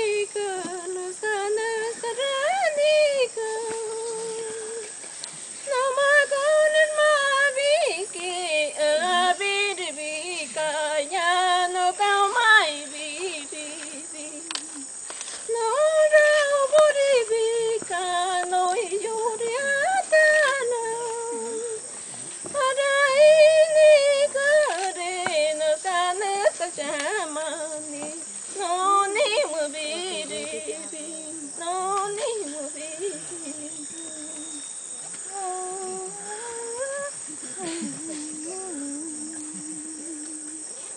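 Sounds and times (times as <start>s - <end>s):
woman singing: 0.0s - 5.0s, 5.6s - 40.9s.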